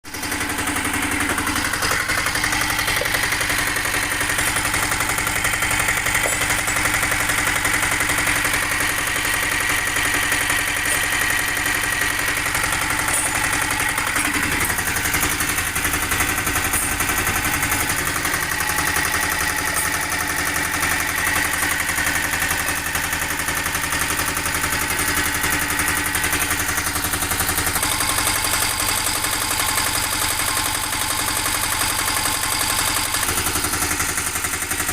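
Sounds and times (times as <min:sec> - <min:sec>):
engine idling with whine: 0:00.1 - 0:34.9.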